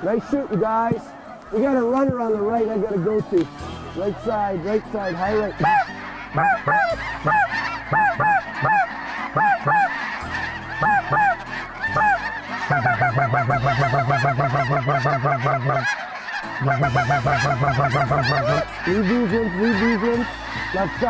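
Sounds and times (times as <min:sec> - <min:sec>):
snow geese calling in flight: 0:00.0 - 0:21.0.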